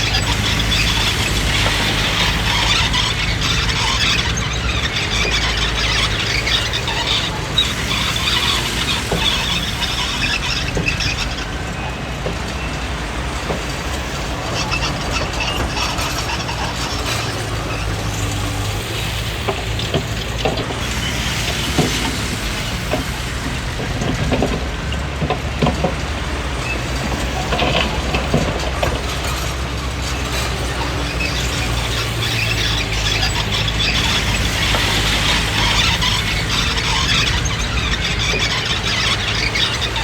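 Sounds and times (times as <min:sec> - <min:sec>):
bulldozer diesel engine running: 0:00.0 - 0:40.0
steel tracks clanking and squealing: 0:00.0 - 0:40.0.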